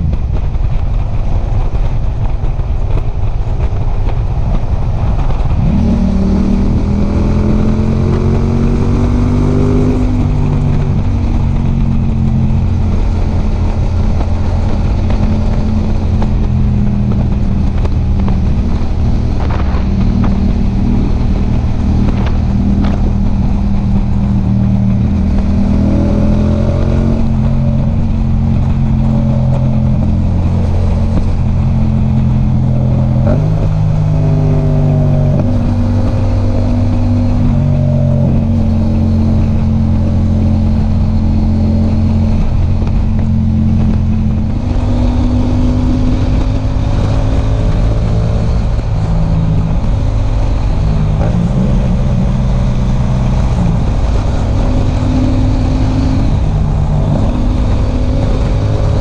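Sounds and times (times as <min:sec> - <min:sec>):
motorcycle engine running: 0:00.0 - 0:59.0
steady low rumble: 0:00.0 - 0:59.0.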